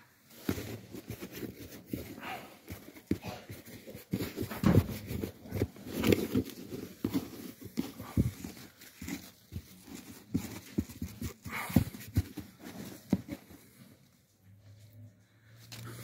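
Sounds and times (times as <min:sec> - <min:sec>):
hands rustling potting mix: 0:00.0 - 0:14.4.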